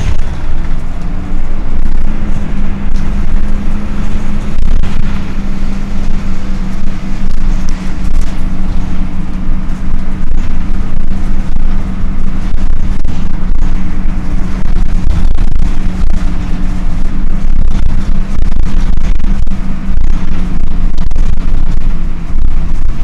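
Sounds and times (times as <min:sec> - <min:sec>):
engine cooling fan droning: 0:00.0 - 0:23.0.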